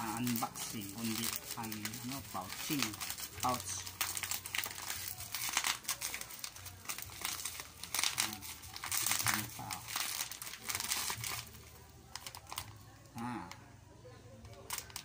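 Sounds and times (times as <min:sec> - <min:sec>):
plastic packaging crinkling: 0:00.0 - 0:13.6, 0:14.4 - 0:15.0.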